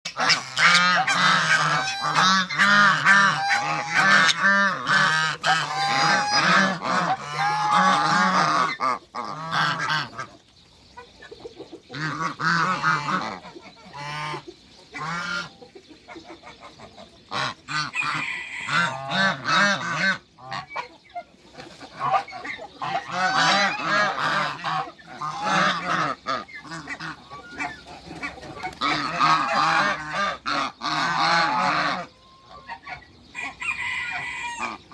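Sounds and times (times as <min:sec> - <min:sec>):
geese honking: 0:00.1 - 0:10.4, 0:11.0 - 0:34.9.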